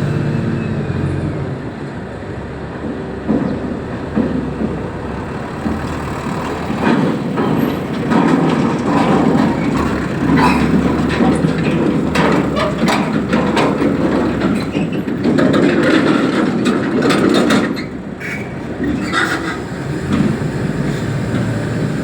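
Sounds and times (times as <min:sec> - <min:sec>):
diesel engine running: 0:00.0 - 0:22.0
metal clanks and rattles: 0:02.8 - 0:20.5.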